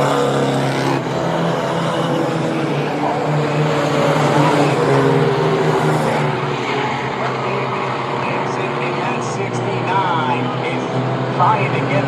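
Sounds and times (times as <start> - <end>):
race truck engines drone: 0.0 - 12.0.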